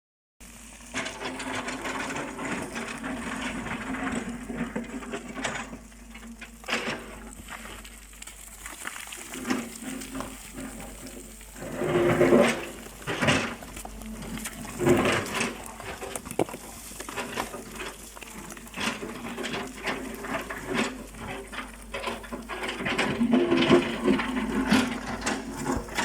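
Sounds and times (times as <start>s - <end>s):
excavator engine humming: 0.4s - 26.0s
metallic clanks and knocks: 0.9s - 7.4s, 9.4s - 26.0s.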